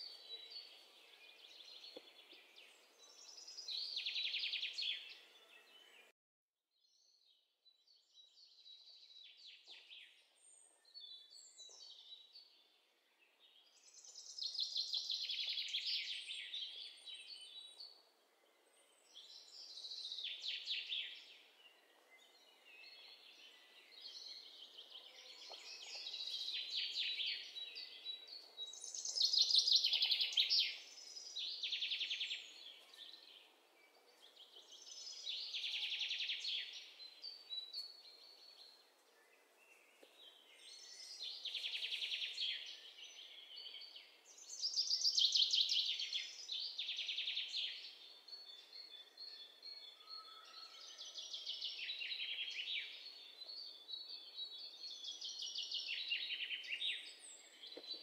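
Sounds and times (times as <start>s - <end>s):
small birds chirping and trilling: 0.0s - 6.1s, 6.9s - 58.0s.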